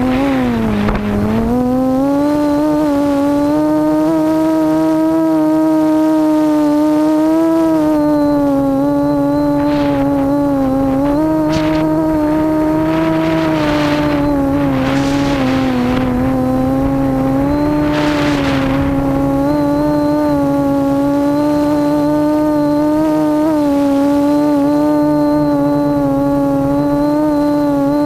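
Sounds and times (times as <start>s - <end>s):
quadcopter motors humming: 0.0s - 28.0s
rushes of air noise: 0.0s - 28.0s.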